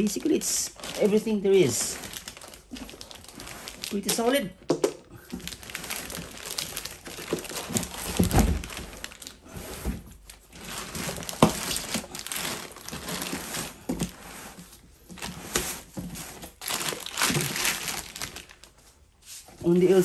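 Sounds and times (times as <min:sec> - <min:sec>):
cardboard packing shifting: 0:00.0 - 0:04.5, 0:05.2 - 0:20.0
plastic wrapping crinkling: 0:00.0 - 0:04.5, 0:05.3 - 0:19.1.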